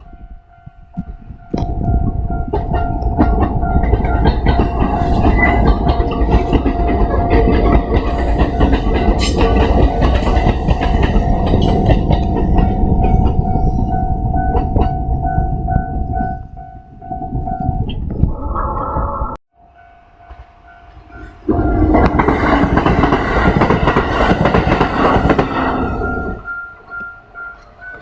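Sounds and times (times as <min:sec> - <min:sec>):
level crossing warning bell: 0:00.0 - 0:17.9, 0:19.6 - 0:28.0
train wheels clattering on rails: 0:00.8 - 0:16.0, 0:20.3 - 0:28.0.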